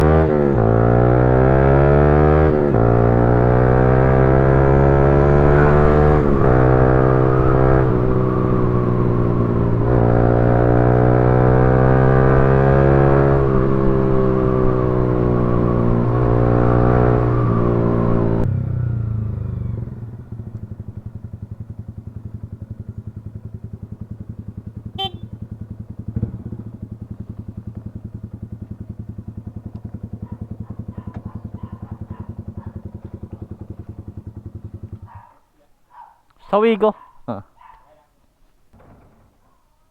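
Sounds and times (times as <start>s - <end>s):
car engine revving and idling: 0.0s - 35.2s.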